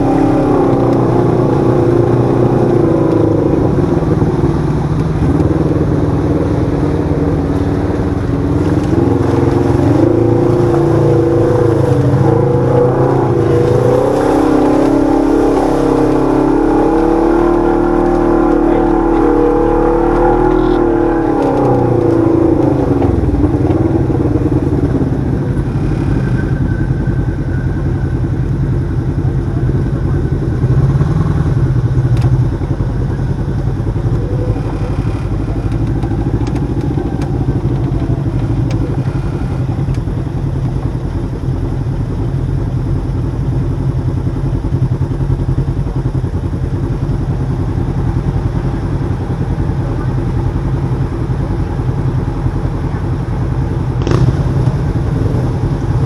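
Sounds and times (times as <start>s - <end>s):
utv engine running: 0.0s - 56.0s.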